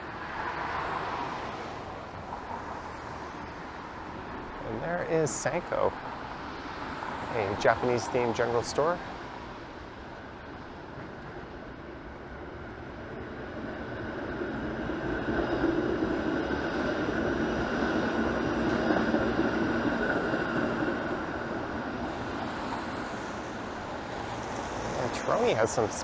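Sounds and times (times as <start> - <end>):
streetcar passing: 0.0 - 26.0.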